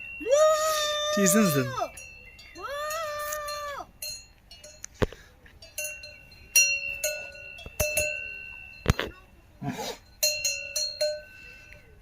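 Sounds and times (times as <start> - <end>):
cowbell clanking: 0.0 - 4.9, 5.6 - 9.4, 10.0 - 12.0.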